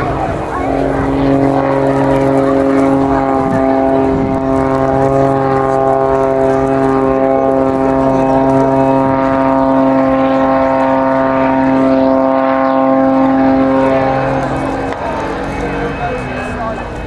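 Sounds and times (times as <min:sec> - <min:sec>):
propeller plane engine running: 0:00.0 - 0:17.0.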